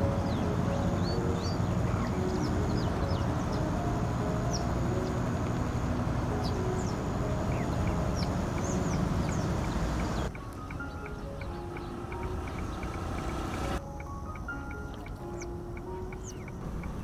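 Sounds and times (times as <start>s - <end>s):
steady low rumble: 0.0s - 14.6s
small birds chirping and whistling: 0.0s - 17.0s.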